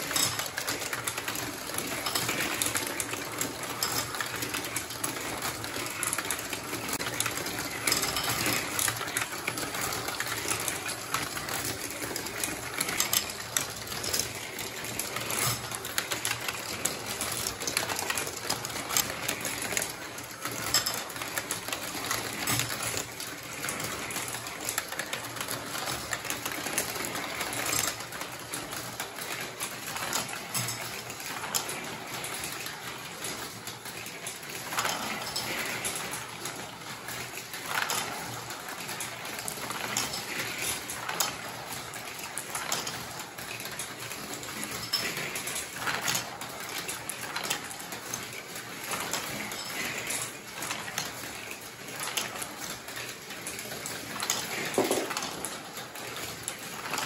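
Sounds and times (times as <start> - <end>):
marbles clattering through plastic run: 0.0 - 57.0.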